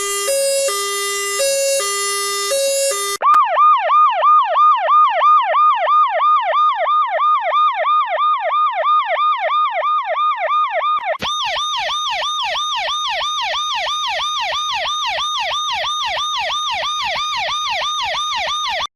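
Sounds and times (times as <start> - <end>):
siren yelping: 0.0 - 6.0, 8.9 - 18.9
harsh yelp siren: 0.0 - 18.9.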